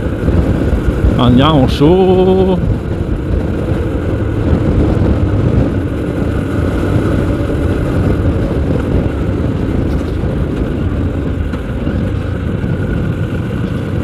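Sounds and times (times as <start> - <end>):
motorcycle engine cruising: 0.0 - 14.0
wind rush while riding: 0.0 - 14.0.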